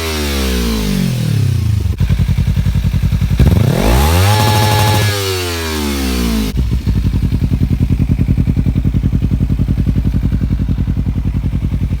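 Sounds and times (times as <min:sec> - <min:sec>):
motorcycle engine idling: 0:00.6 - 0:05.1, 0:05.9 - 0:12.0.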